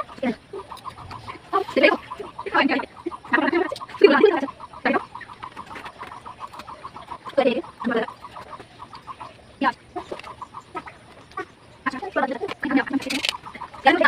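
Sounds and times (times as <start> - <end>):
rapid repeated animal calls: 0.0 - 14.0.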